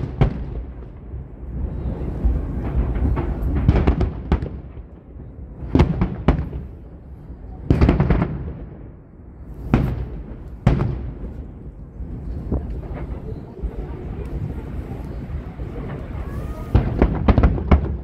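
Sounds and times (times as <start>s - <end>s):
firework booms echoing: 0.0s - 18.0s
firework crackles: 0.0s - 18.0s
steady low rumble: 0.0s - 18.0s.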